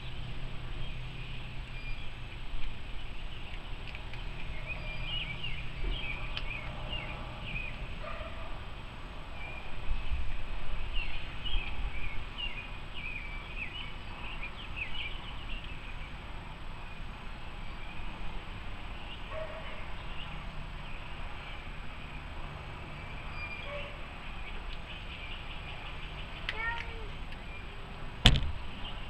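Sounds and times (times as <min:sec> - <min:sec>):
small birds chirping: 0:00.0 - 0:08.5, 0:09.3 - 0:28.0.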